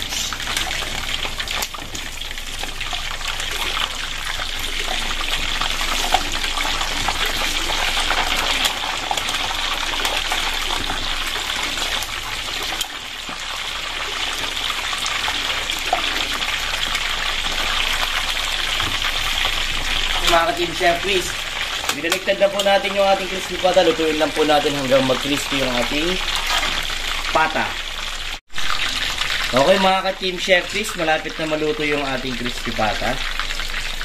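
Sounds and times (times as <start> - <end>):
oil sizzling in a wok: 0.0 - 34.0.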